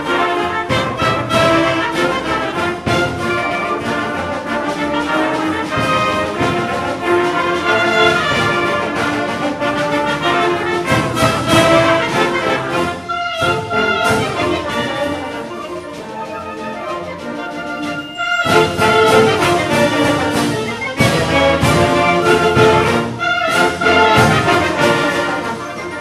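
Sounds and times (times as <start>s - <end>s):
brass held notes: 0.0s - 26.0s
wind band playing: 0.0s - 26.0s.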